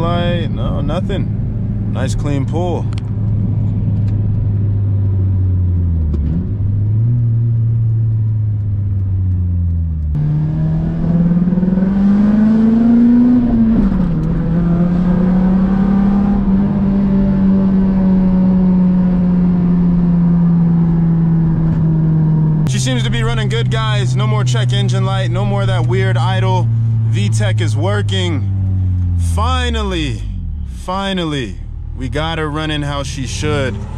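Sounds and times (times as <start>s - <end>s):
car engine accelerating: 0.0s - 33.9s.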